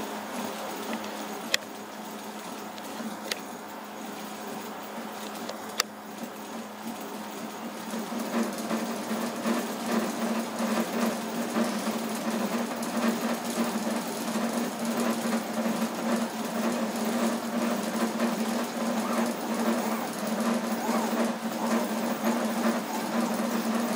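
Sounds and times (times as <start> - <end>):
printer stepper motors whirring: 0.0 - 23.9
steady hum: 0.0 - 23.9.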